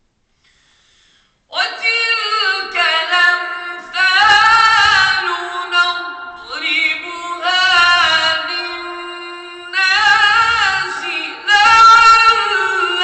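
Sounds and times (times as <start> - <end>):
person chanting religious recitation: 1.5 - 13.0.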